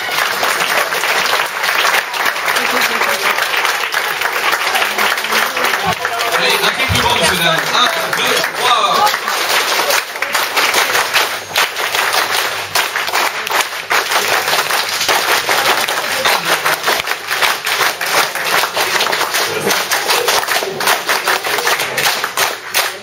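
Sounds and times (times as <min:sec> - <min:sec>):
audience clapping: 0:00.0 - 0:23.0.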